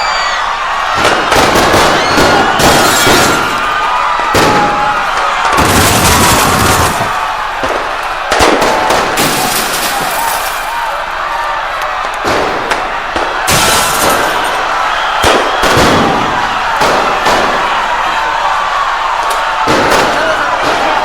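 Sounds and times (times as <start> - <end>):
crowd-like noise: 0.0 - 21.0
loud bangs and crackles: 0.2 - 21.0.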